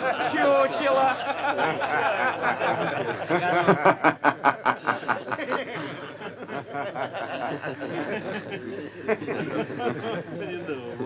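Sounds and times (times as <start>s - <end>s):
men laughing: 0.0s - 11.0s.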